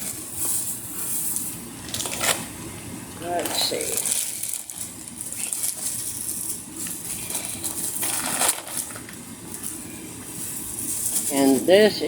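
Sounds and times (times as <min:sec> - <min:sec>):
plastic packaging crinkling: 0:00.0 - 0:02.6, 0:03.4 - 0:12.0.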